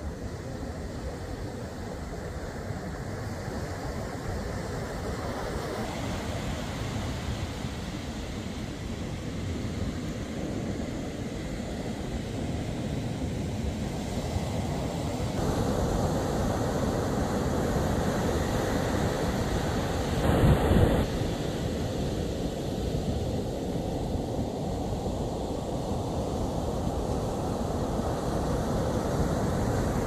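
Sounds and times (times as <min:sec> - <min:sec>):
sea wash: 0:00.0 - 0:30.0.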